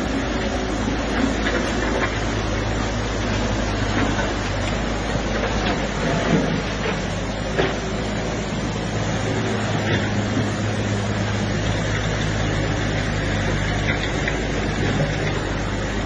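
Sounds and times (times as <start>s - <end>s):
fast-flowing floodwater rushing: 0.0s - 16.0s
tractor engine humming: 0.0s - 16.0s.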